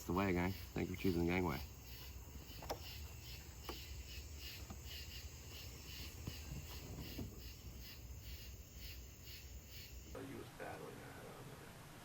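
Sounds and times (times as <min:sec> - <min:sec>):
insects chirping: 0:00.0 - 0:10.3.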